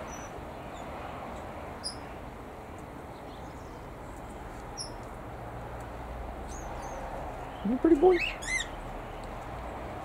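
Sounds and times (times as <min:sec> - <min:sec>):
aviary background noise: 0:00.0 - 0:10.0
small birds chirping: 0:00.0 - 0:10.0.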